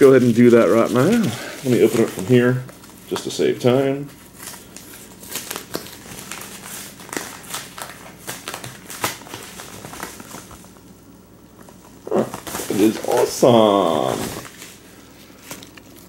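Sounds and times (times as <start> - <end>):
packaging crinkling and rustling: 0.0 - 10.9, 11.5 - 16.0.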